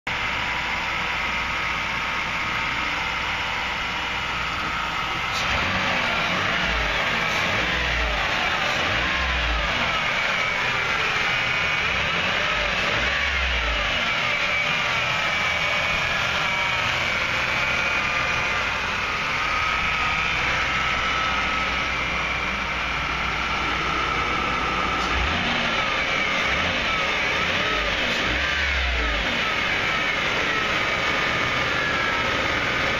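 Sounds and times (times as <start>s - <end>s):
car engine running: 0.1s - 32.9s.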